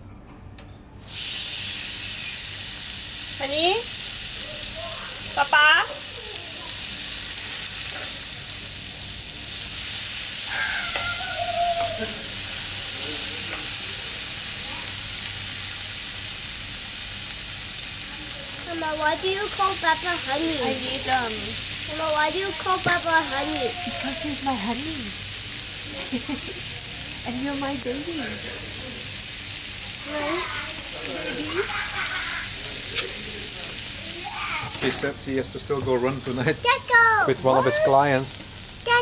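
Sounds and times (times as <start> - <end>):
food sizzling in a pan: 1.0 - 39.0.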